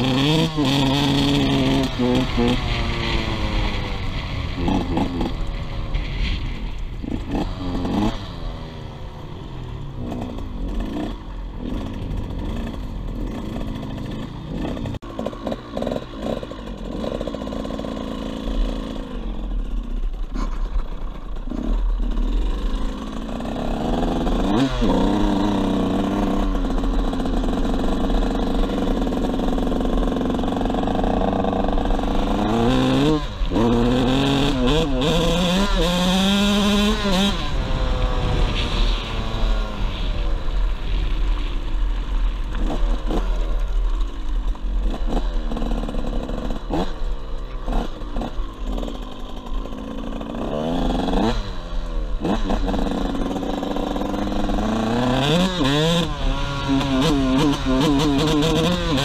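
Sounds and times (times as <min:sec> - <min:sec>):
motocross bike engine revving: 0:00.0 - 0:41.8, 0:42.4 - 0:59.0.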